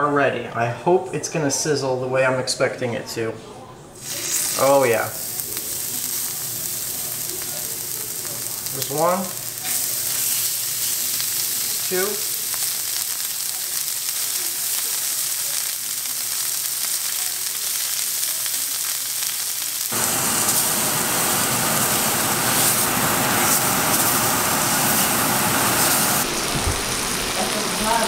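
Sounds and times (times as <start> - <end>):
fish fillets sizzling in skillet: 4.0 - 28.0.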